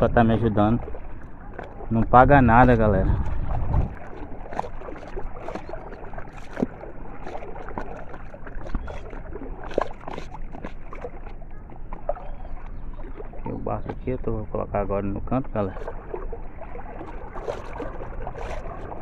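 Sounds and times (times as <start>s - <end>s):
water lapping against boat: 0.0s - 19.0s.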